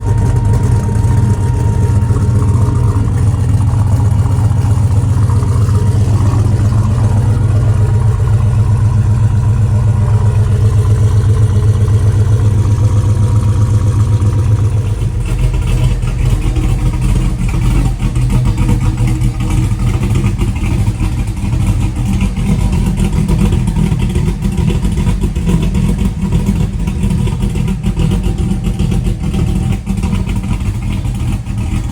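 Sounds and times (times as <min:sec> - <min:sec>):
car engine idling roughly: 0:00.0 - 0:31.9
car engine idling smoothly: 0:00.0 - 0:31.9.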